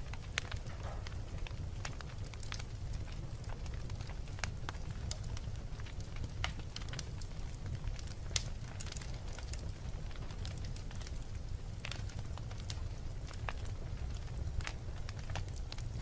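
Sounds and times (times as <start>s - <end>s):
fire low rumble: 0.0s - 16.0s
wood fire crackling and popping: 0.0s - 16.0s.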